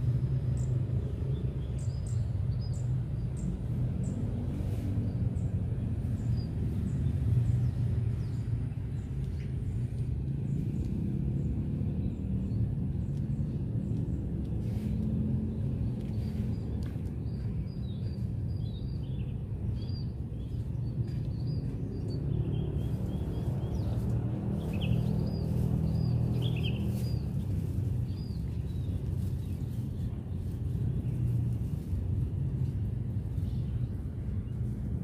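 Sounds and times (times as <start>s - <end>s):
low rumble with faint hum: 0.0s - 35.0s
small birds chirping: 0.0s - 35.0s.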